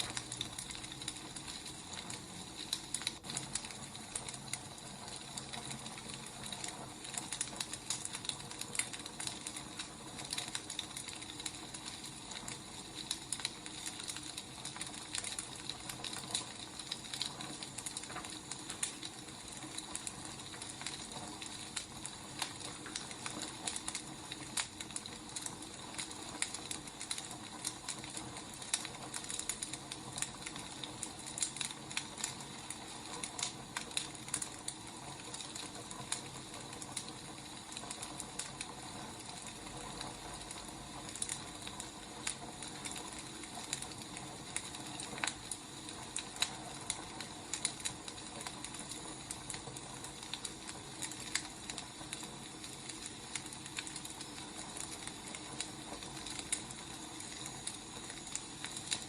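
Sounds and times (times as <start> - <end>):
fire hiss: 0.0 - 59.0
wood fire crackling: 0.0 - 59.0.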